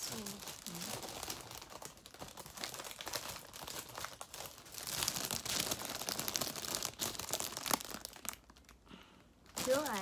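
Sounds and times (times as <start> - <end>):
cellophane wrap crinkling: 0.0 - 10.0.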